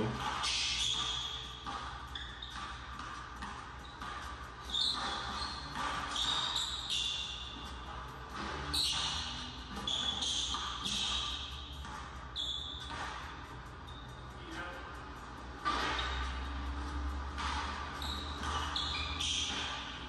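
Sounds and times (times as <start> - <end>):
sneaker squeaks: 0.0 - 20.0.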